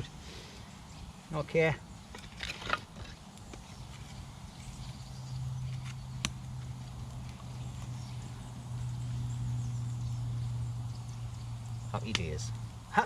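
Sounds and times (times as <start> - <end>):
campfire crackling: 0.0 - 13.0
steady low hum: 0.0 - 13.0.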